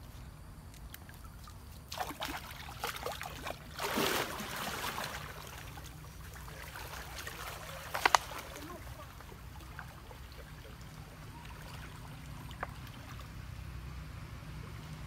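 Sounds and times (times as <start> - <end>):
low steady rumble: 0.0 - 15.0
water splashing and sloshing: 0.0 - 15.0.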